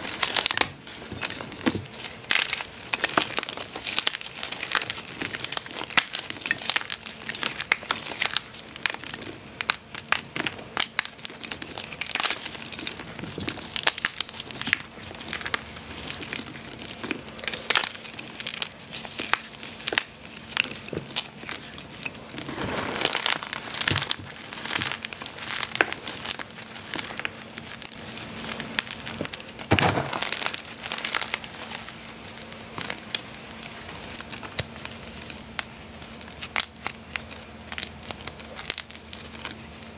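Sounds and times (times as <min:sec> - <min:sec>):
chalk pieces snapping: 0:00.0 - 0:39.9
hands crushing chalk blocks: 0:00.0 - 0:39.9.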